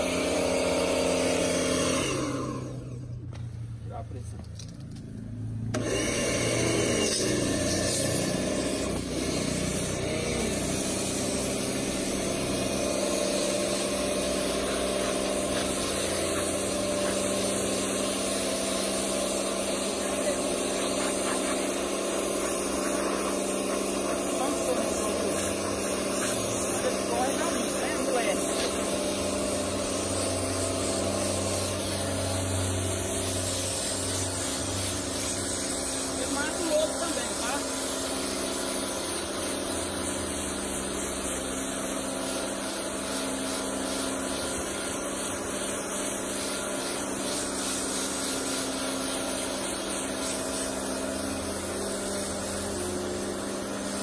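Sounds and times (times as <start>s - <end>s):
water jet hissing on stone: 0.0s - 3.2s, 5.6s - 54.0s
pressure washer pump droning: 0.0s - 54.0s.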